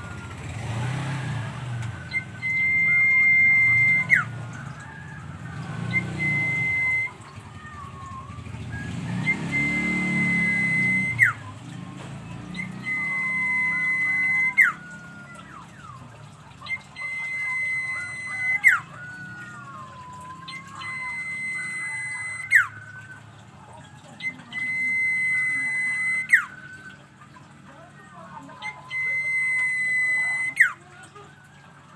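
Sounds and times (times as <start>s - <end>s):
bird whistling song: 0.0s - 31.9s
quiet wavering bird notes: 0.0s - 31.9s.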